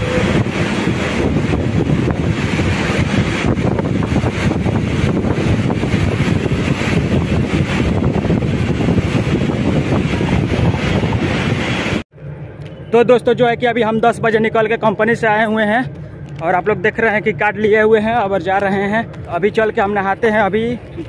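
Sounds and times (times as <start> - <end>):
factory machinery rumbling: 0.0 - 21.0.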